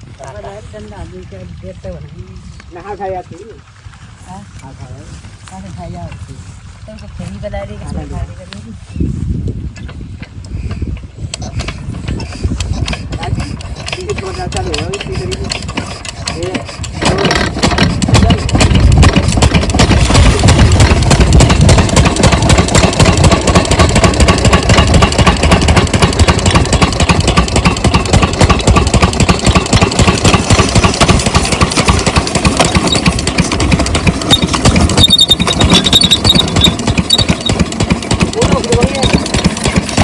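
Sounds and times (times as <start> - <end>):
diesel water pump engine running: 0.0 - 8.9, 9.5 - 40.0.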